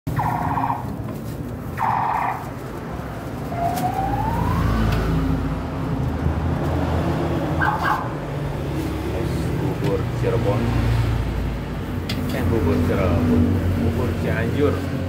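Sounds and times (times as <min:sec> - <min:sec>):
vehicle passing with whine: 0:01.8 - 0:15.0.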